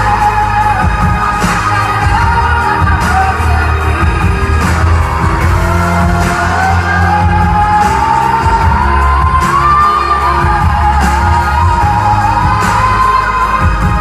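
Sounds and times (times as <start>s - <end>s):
band with pulsing bass: 0.0s - 14.0s.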